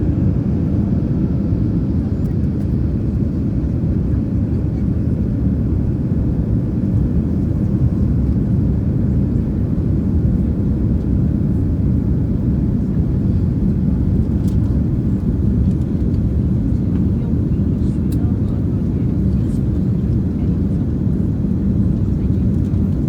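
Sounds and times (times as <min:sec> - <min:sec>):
airliner cabin engine rumble: 0:00.0 - 0:23.0.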